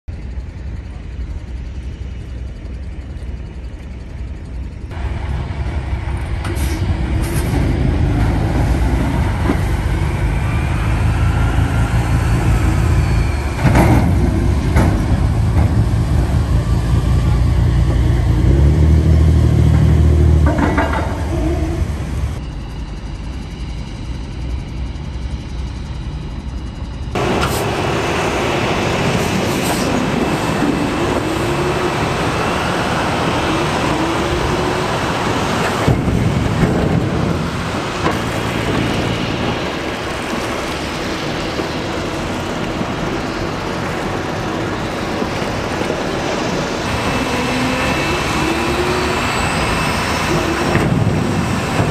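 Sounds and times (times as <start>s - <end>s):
engines rumbling: 0.0s - 51.9s.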